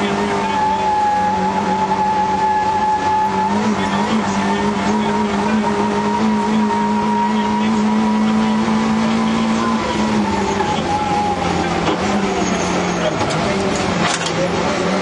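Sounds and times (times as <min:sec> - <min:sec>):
car engine under load: 0:00.0 - 0:15.0
road noise: 0:00.0 - 0:15.0.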